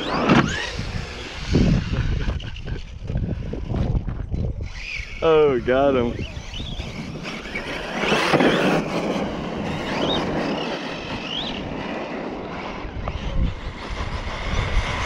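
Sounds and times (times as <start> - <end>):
electric motor whining: 0.0 - 15.0
wind noise on microphone: 0.0 - 15.0.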